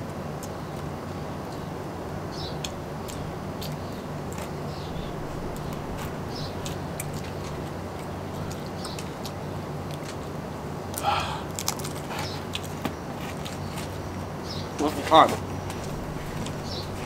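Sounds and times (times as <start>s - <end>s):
people chewing pizza: 0.0s - 17.0s
steady low hum: 0.0s - 17.0s.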